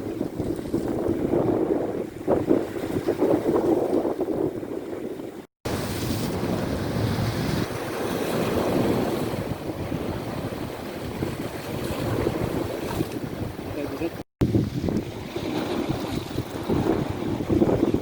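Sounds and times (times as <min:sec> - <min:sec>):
sea waves washing ashore: 0:00.0 - 0:18.0
wind buffeting microphone: 0:00.0 - 0:18.0.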